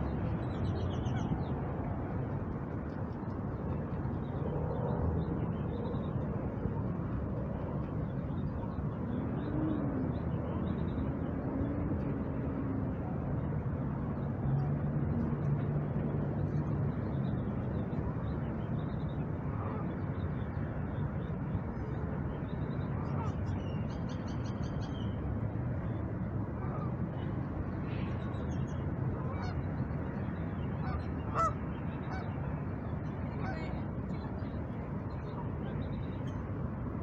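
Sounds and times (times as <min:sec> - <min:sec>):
distant traffic hum: 0:00.0 - 0:37.0.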